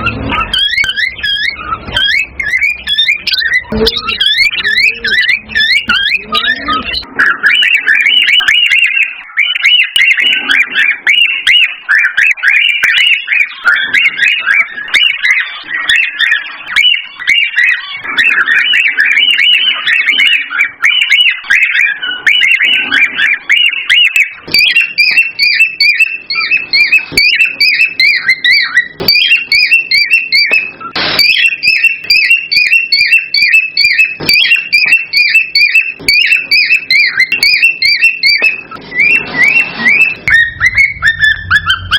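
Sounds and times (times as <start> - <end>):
cockatiels chirping and whistling: 0.0 - 41.9.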